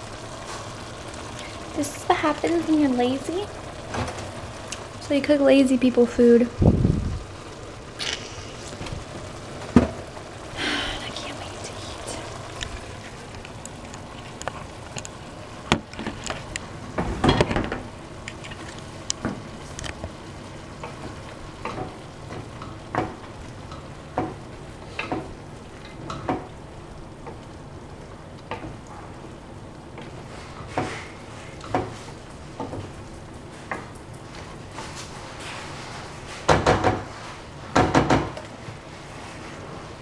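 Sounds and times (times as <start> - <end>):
food sizzling in frying pan: 0.0 - 40.0.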